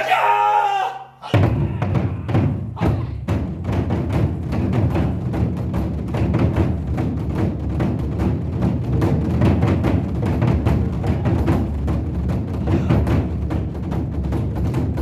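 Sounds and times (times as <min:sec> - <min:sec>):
drums beaten in quick strokes: 0:01.2 - 0:15.0.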